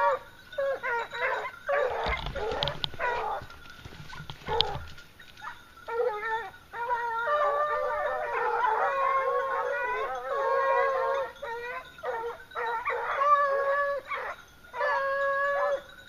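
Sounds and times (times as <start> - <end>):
dog howling: 0.0 - 3.5, 5.9 - 16.0
dogs yelping: 0.0 - 16.0.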